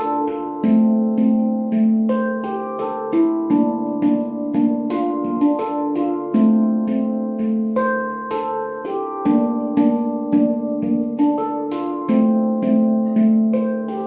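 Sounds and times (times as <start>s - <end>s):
handpan notes ringing: 0.0s - 14.0s.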